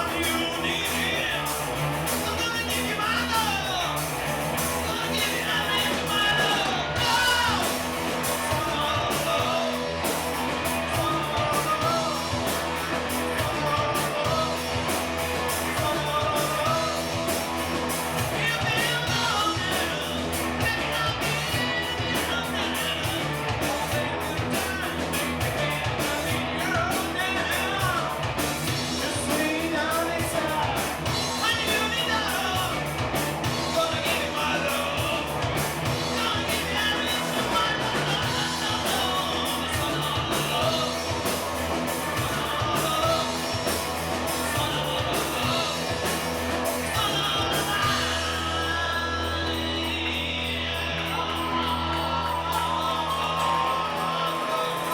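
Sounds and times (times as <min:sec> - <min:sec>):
person singing: 0:00.0 - 0:04.1, 0:04.7 - 0:17.6, 0:18.2 - 0:54.9
electric guitar: 0:00.0 - 0:54.9
steady drum beat: 0:00.0 - 0:54.9.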